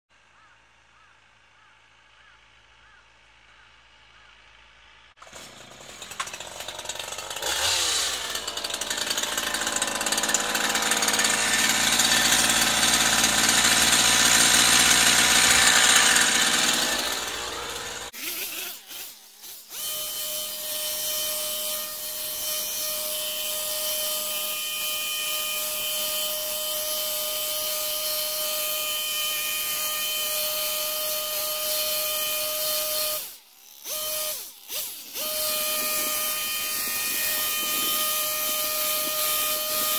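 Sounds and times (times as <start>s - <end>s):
hedge trimmer running: 5.2s - 39.9s.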